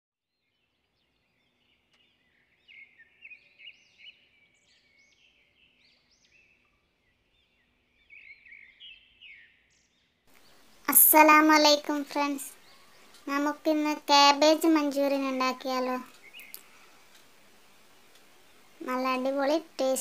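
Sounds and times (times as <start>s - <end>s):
faint bird chirping: 0.3s - 20.0s.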